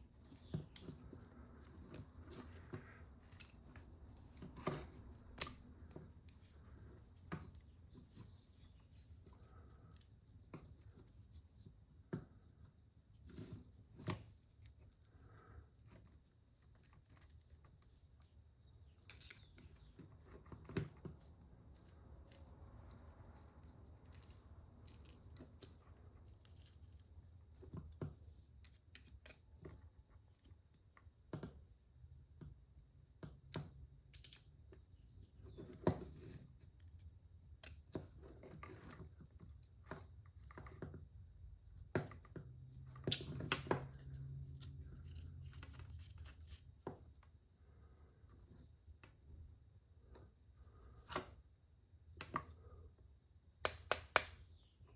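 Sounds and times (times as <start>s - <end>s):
faint low hum: 0.0s - 53.7s.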